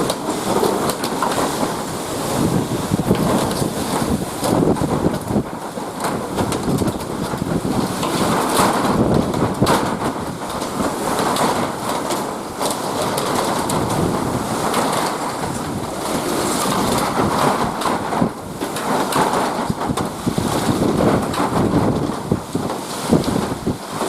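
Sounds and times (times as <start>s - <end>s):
strong gusting wind: 0.0s - 24.0s.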